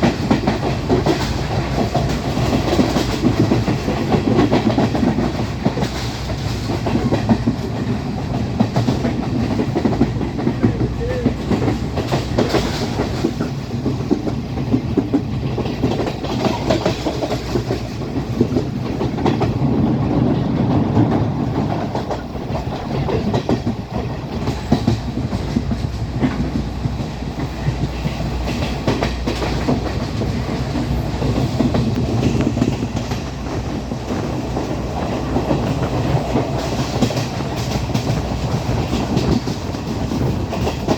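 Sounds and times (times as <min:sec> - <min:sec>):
clickety-clack of rail joints: 0:00.0 - 0:40.9
train wheels rumbling on rail: 0:00.0 - 0:40.9.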